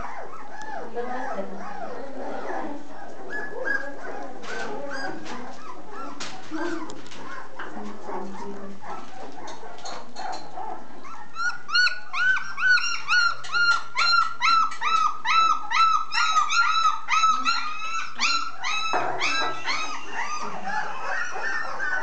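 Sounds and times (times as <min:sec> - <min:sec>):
puppy yelping: 0:00.0 - 0:22.0.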